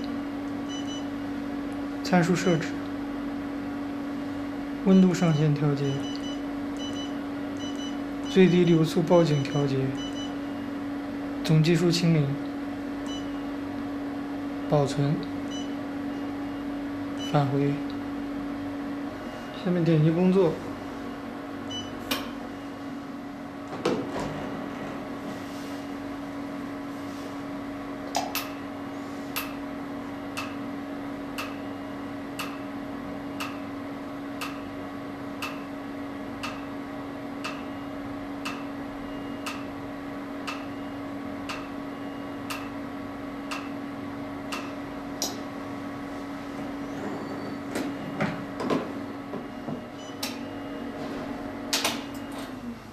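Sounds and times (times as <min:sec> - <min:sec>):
machine hum: 0:00.0 - 0:52.9.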